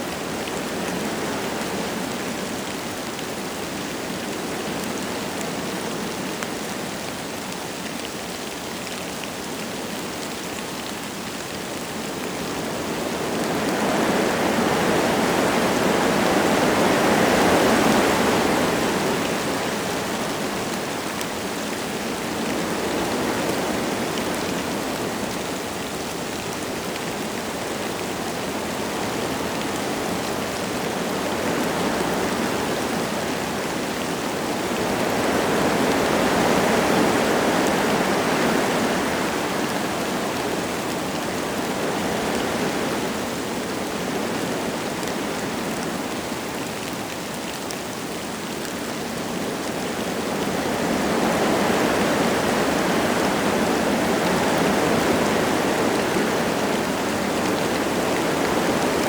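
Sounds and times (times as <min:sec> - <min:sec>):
light rain falling: 0:00.0 - 0:59.0
wind gusting through trees: 0:00.0 - 0:59.0.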